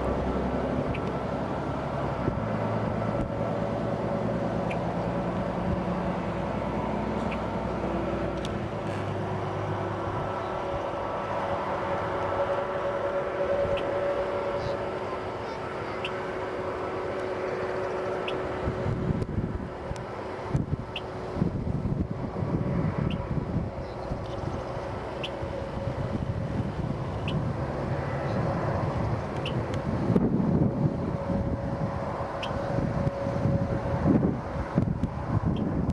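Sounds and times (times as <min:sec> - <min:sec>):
jet engine whine: 0:00.0 - 0:35.9
jet engines rumbling: 0:00.0 - 0:35.9.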